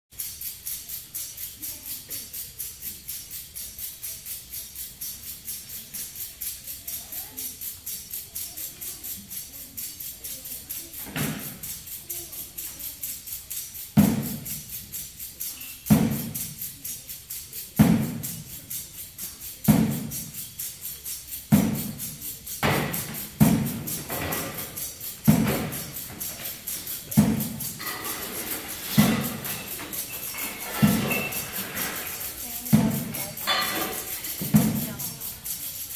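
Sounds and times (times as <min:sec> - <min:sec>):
high rattling pulse: 0:00.1 - 0:35.9.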